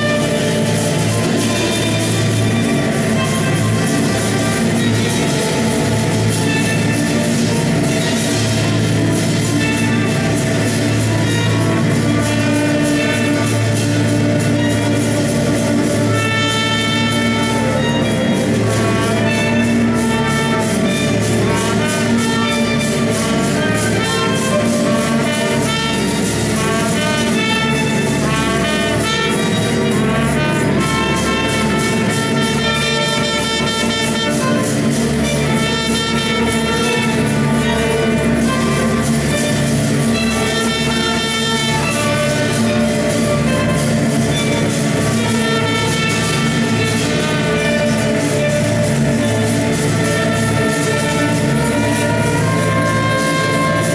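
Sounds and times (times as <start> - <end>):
trumpet: 0.0 - 53.9
violins: 0.0 - 53.9.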